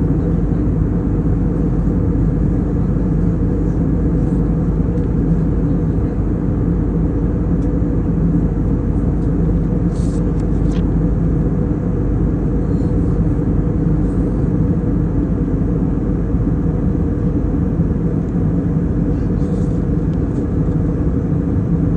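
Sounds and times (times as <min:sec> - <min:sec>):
airplane engines droning: 0:00.0 - 0:21.9.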